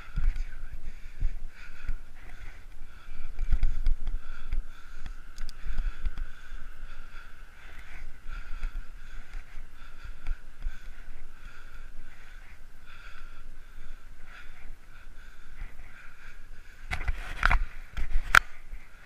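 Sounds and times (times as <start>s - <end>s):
steady hiss of bicycle ride: 0.0s - 19.0s.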